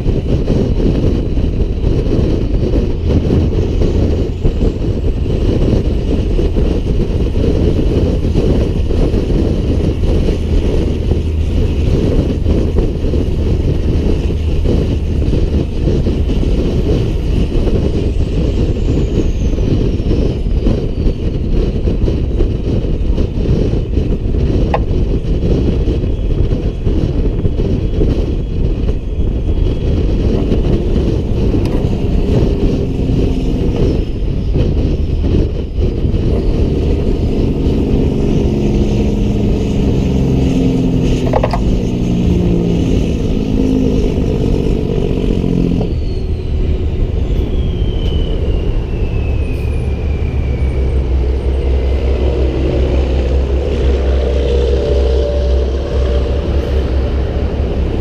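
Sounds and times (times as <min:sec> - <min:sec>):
road noise: 0:00.0 - 0:58.0
truck engine running: 0:00.0 - 0:58.0.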